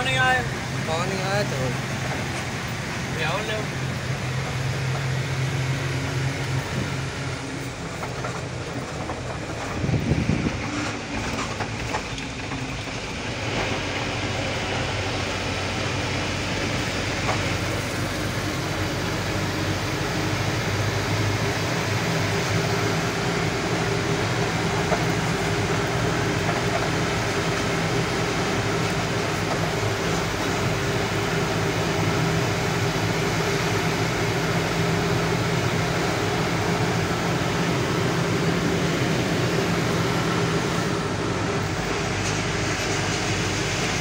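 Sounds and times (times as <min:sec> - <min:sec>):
road and cab noise: 0:00.0 - 0:44.0
truck engine running: 0:00.0 - 0:44.0.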